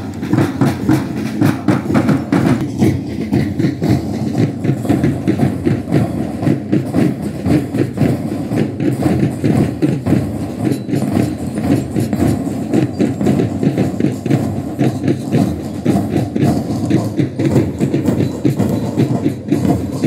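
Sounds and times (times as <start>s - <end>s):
parade drums beating: 0.0s - 20.0s.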